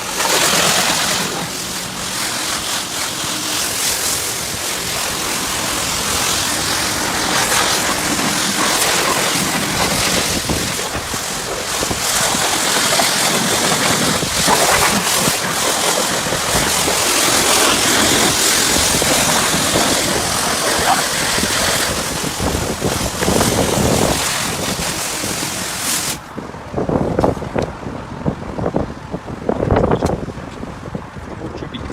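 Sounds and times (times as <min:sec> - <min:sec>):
pressure washer spraying car: 0:00.0 - 0:26.4.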